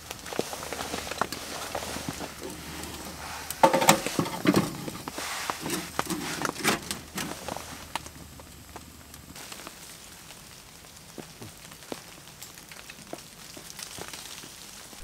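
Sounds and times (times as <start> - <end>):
burning wood crackling: 0.0 - 15.0.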